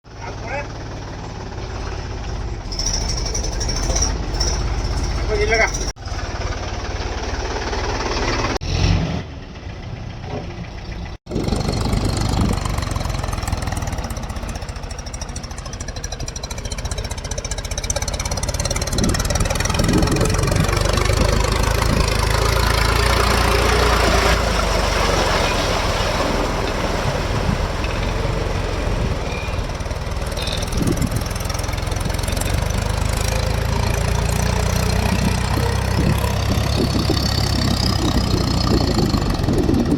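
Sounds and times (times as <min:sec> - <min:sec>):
tractor diesel engine running: 0:00.0 - 0:08.6, 0:09.3 - 0:39.9.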